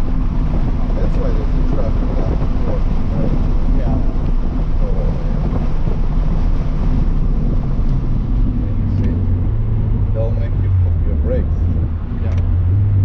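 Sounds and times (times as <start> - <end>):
car engine droning at speed: 0.0 - 13.0
tyre and wind noise: 0.0 - 13.0.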